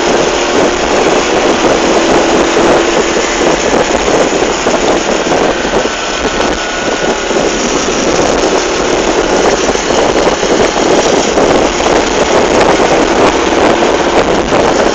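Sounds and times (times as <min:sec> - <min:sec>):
loud road noise: 0:00.0 - 0:14.9
vehicle engine running: 0:00.0 - 0:14.9.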